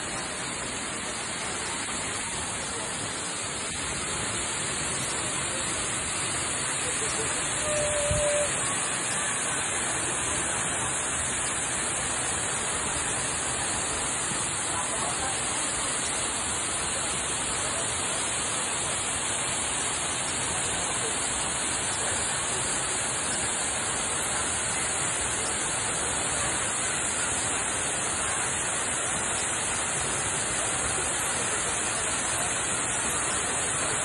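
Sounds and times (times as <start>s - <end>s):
waterfall rushing onto rocks: 0.0s - 34.0s.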